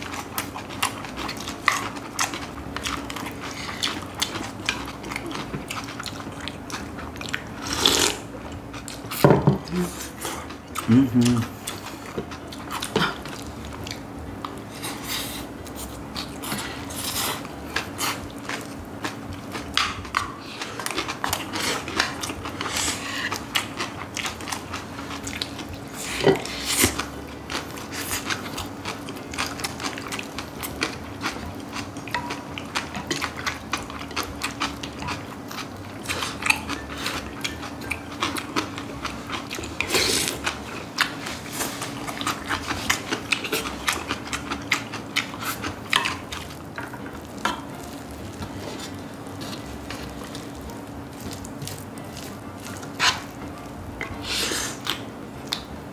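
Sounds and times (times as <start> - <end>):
chewing and crunching: 0.0 - 55.9
steady low hum: 0.0 - 55.9.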